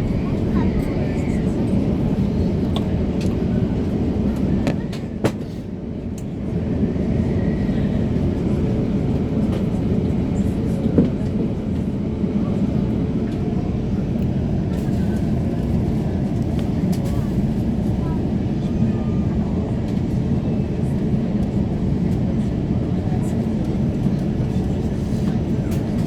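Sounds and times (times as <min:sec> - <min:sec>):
airplane taxiing rumble: 0:00.0 - 0:26.0.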